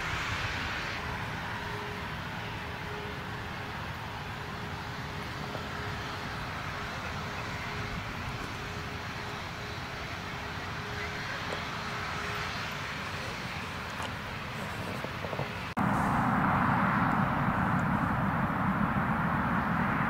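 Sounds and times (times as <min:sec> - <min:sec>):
distant engine rumble and hiss: 0:00.0 - 0:20.0
jet airliner engine noise: 0:00.0 - 0:20.0.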